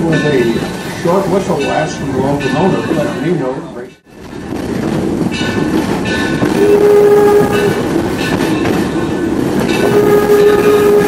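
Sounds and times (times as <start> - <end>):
train rolling rumble and clatter: 0.0 - 11.0.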